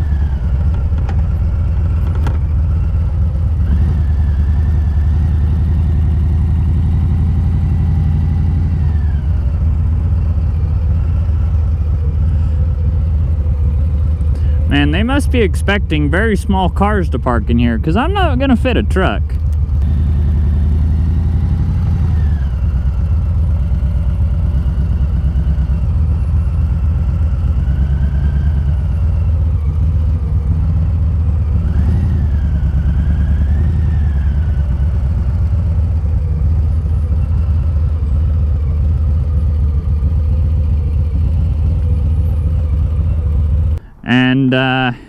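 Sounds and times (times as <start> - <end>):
motorcycle engine rumbling: 0.0 - 45.0.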